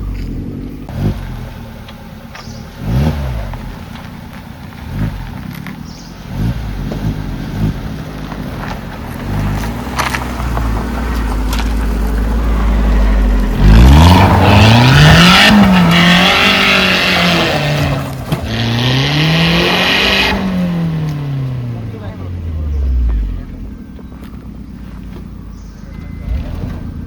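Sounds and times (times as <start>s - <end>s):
suv engine revving: 0.0s - 27.0s.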